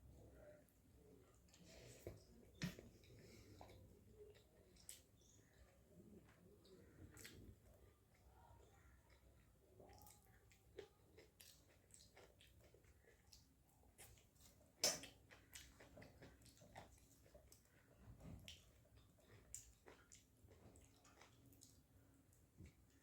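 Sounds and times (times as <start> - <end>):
chewing food: 0.7 - 23.0.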